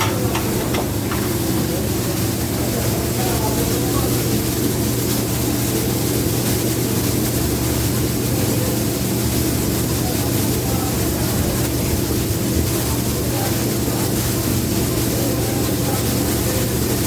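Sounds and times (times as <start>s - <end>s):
dishwasher motor hum: 0.0s - 17.0s
dishwasher water spray hiss: 0.0s - 17.0s.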